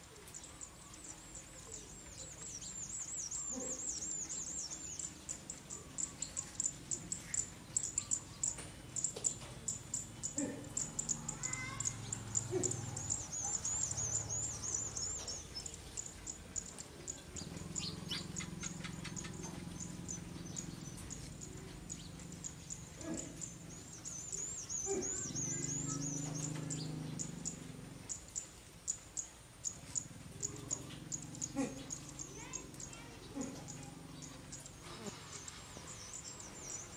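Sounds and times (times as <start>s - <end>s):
small birds chirping: 0.0s - 36.9s
high warbling bird trill: 0.3s - 29.0s, 29.6s - 36.9s.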